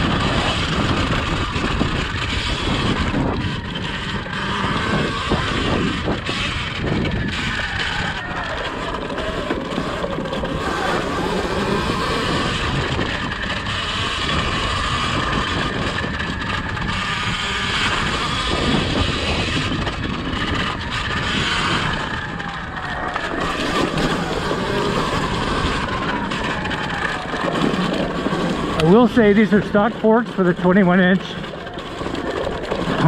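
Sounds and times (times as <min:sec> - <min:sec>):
bike rattling over bumpy ground: 0:00.0 - 0:33.0
electric motor whine: 0:00.0 - 0:33.0.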